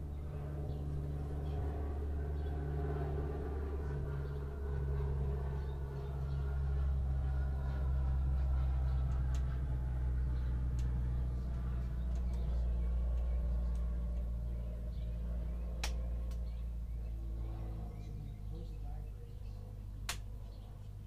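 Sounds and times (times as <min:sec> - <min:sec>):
aircraft cockpit drone: 0:00.0 - 0:21.0.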